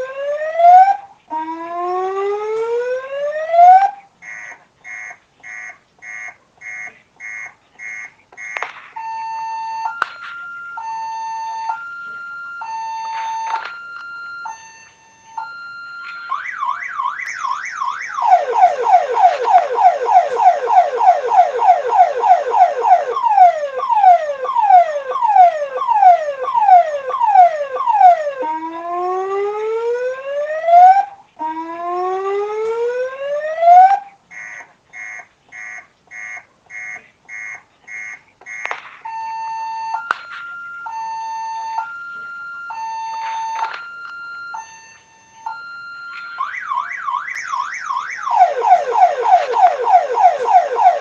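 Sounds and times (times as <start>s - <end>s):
ambulance siren: 0.0s - 51.0s.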